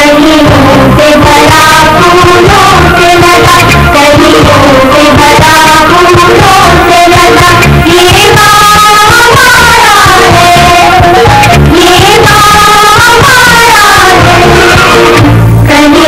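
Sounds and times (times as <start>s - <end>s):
person singing: 0.0s - 16.0s
drum beat: 0.5s - 15.5s.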